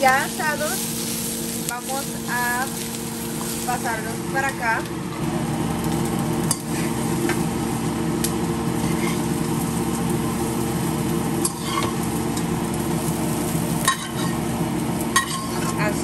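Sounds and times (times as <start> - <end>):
food sizzling in frying pans: 0.0 - 16.0
steady hum: 0.0 - 16.0.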